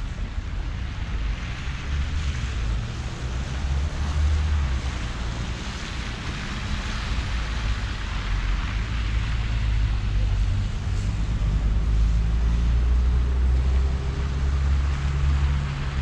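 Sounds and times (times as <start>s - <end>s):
city street noise hiss: 0.0s - 16.0s
wind rumbling on microphone: 0.0s - 16.0s.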